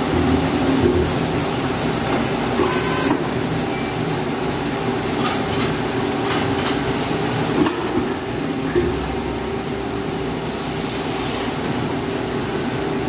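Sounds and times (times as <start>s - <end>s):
machine hum and clatter: 0.0s - 13.0s.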